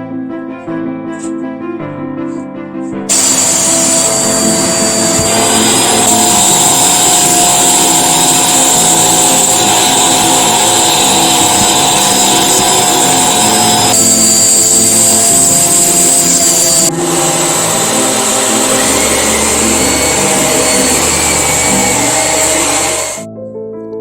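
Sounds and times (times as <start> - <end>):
upright vacuum cleaner running: 3.1 - 23.2.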